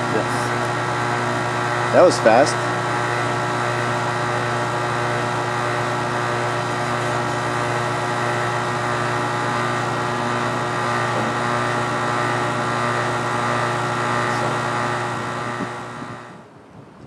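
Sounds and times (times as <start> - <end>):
heat pump compressor and fan hum: 0.0 - 16.6.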